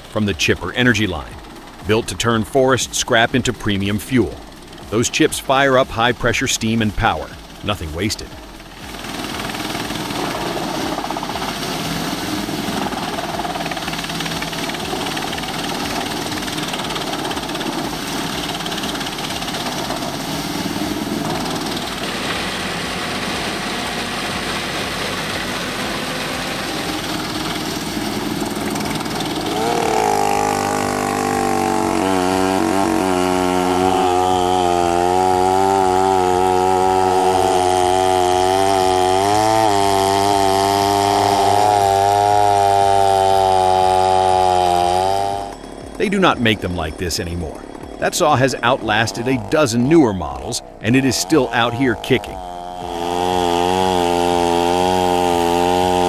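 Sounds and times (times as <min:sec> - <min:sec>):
chainsaw engine running: 0:00.0 - 0:56.0
wood chipper running: 0:00.0 - 0:56.0.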